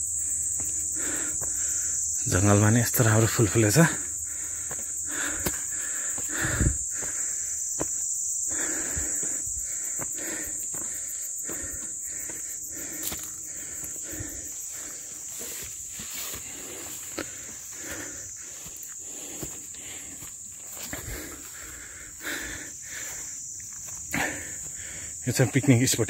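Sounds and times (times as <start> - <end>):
footsteps on forest trail: 0.0 - 25.8
insects chirping: 0.0 - 26.0.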